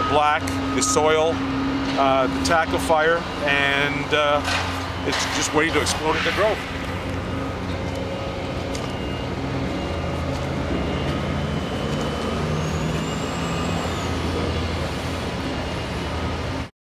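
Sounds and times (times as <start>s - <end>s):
heavy truck engine running: 0.0s - 16.7s.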